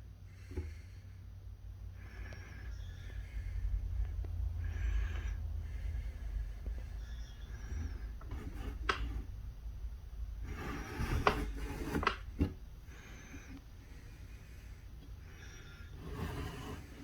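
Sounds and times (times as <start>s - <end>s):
rubbing and scraping handling noise: 2.0s - 17.0s.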